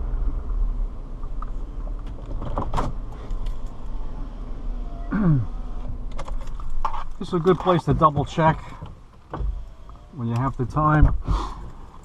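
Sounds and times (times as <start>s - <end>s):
car low rumble: 0.0s - 12.0s.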